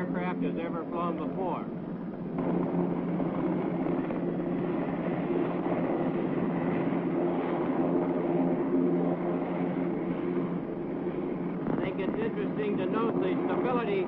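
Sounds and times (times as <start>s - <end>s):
helicopter droning at lift-off: 0.0s - 14.0s.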